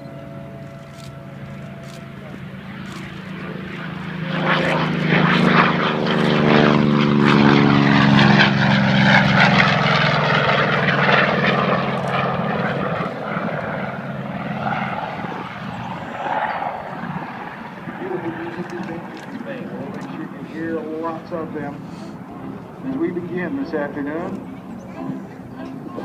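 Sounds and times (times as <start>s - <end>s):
propeller aircraft flying past: 0.0s - 26.0s.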